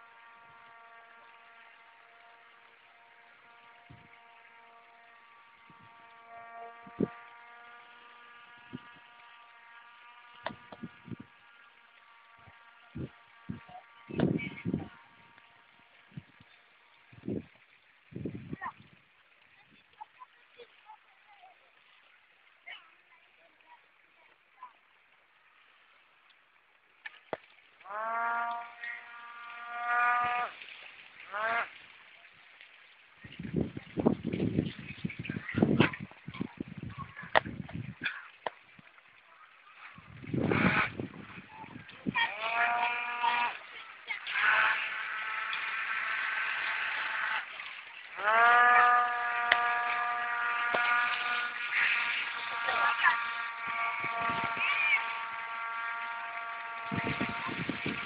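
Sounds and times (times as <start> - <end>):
electric motor and fan whine: 0.0 - 19.1, 27.3 - 31.8, 33.2 - 38.5, 39.7 - 58.0.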